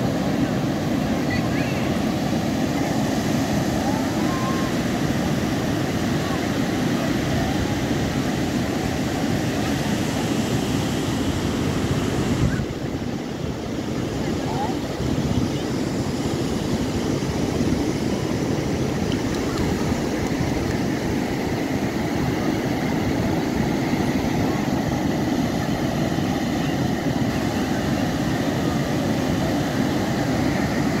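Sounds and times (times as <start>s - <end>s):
surf breaking on beach: 0.0s - 31.0s.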